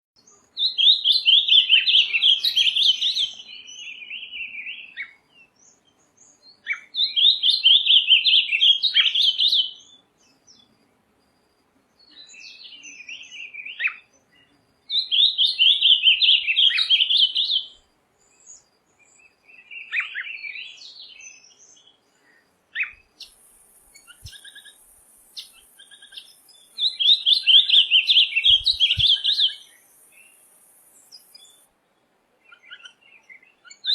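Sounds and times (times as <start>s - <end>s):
songbird singing high trills: 0.2s - 10.7s, 11.9s - 31.7s, 32.4s - 33.9s.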